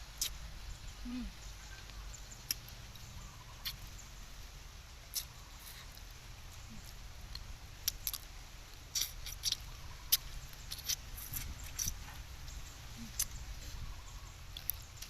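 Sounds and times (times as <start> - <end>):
chewing and crunching food: 1.1 - 3.9, 5.1 - 15.0.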